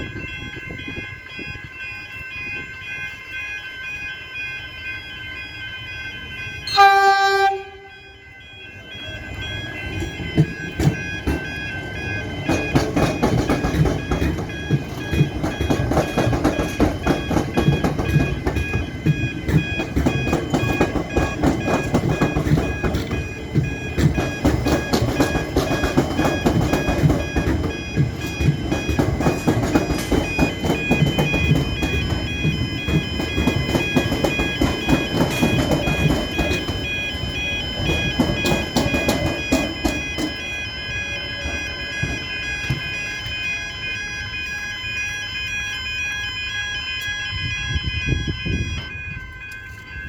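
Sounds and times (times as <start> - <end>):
electric train rumbling past: 0.0 - 50.0
level crossing warning alarm: 0.0 - 50.0.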